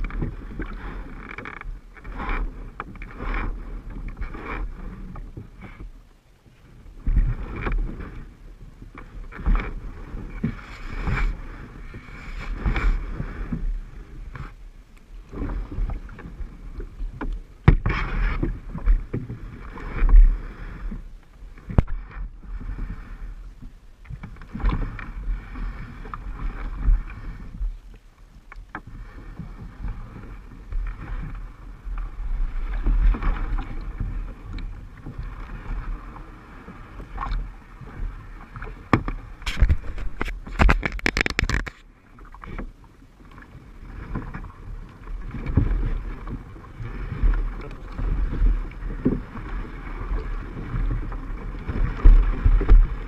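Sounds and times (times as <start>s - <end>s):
paddle splashing water: 0.0s - 53.0s.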